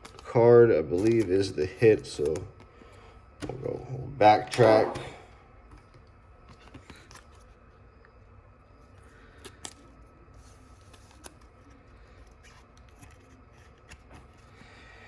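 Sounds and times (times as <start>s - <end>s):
cards sliding and rustling: 0.9s - 5.1s, 5.7s - 7.7s, 8.8s - 14.8s.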